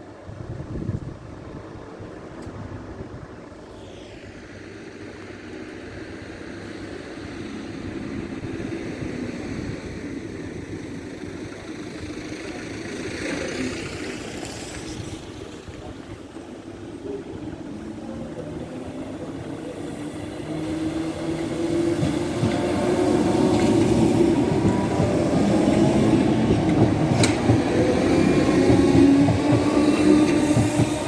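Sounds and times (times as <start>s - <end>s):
approaching train: 0.0s - 31.0s.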